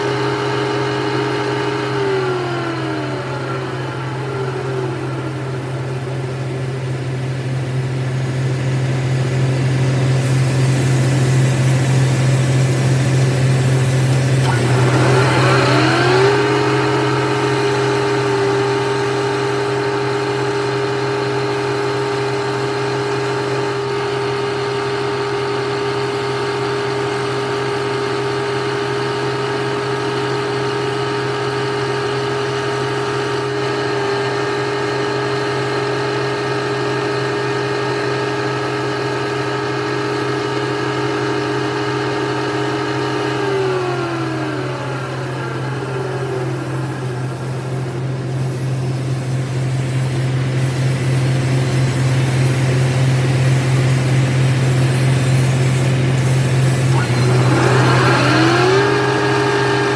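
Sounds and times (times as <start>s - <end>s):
lathe motor spinning: 0.0s - 59.9s.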